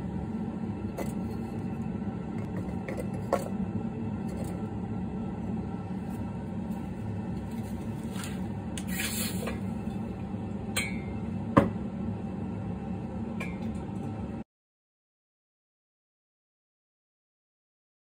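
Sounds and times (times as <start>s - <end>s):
low workshop hum: 0.0s - 14.5s.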